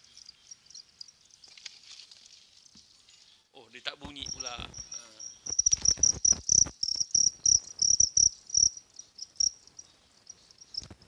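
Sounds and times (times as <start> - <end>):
crickets chirping: 0.0 - 3.2, 4.0 - 11.0.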